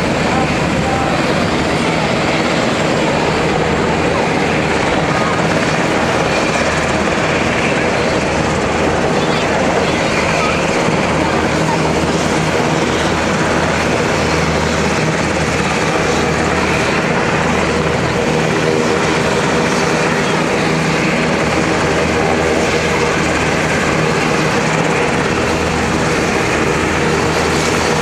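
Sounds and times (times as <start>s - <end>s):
helicopter drone: 0.0s - 28.0s.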